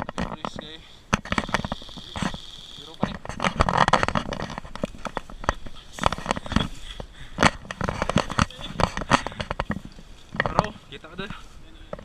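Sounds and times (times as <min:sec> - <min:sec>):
sharp cracks and pops: 0:00.0 - 0:10.8.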